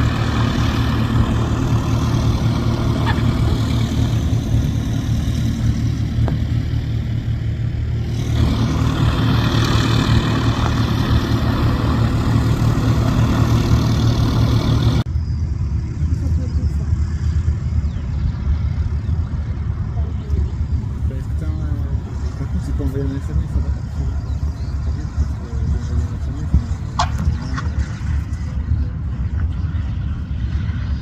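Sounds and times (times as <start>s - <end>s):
propeller aircraft engine drone: 0.0s - 31.0s.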